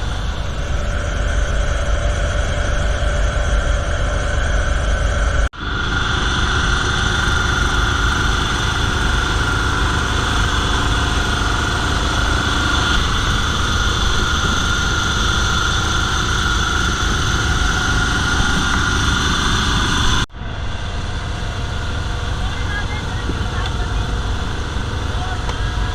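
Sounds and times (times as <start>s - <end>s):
boat engine droning: 0.0s - 25.9s.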